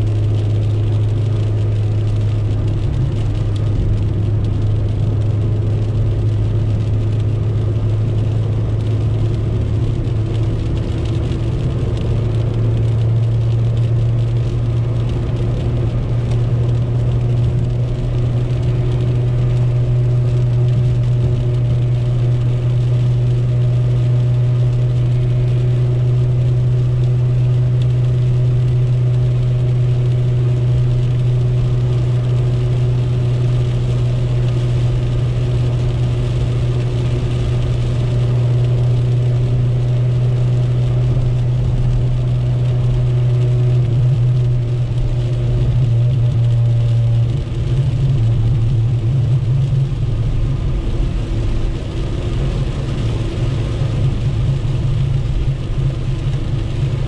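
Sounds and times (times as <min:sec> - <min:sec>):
car engine droning: 0:00.0 - 0:57.0
wet road and rain noise: 0:00.0 - 0:57.0.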